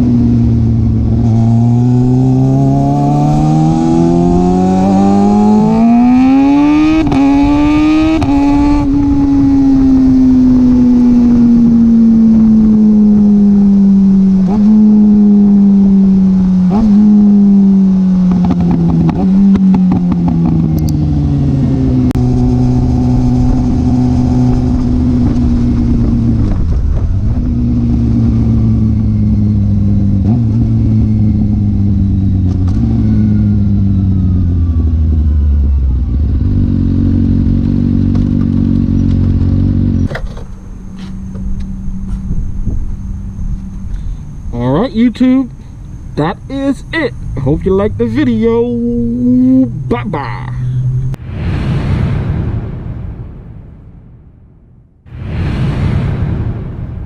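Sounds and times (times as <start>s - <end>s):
motorcycle engine revving: 0.0s - 51.2s.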